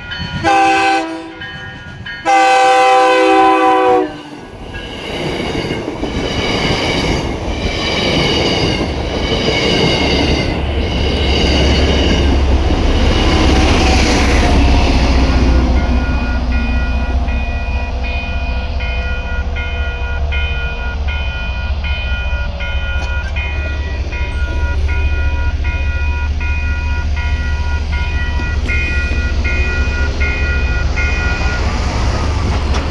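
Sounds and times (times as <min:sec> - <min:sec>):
crossing warning bells clanging: 0:00.0 - 0:32.9
train rumbling: 0:00.0 - 0:32.9.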